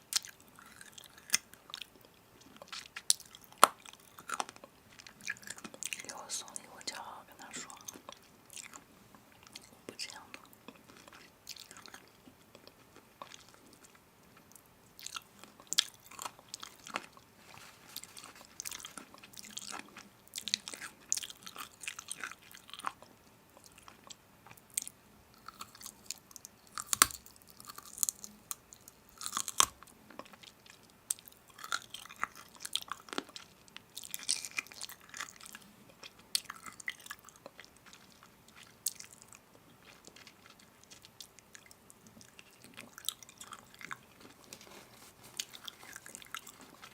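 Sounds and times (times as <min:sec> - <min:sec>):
chewing crunchy food: 0:00.0 - 0:46.9.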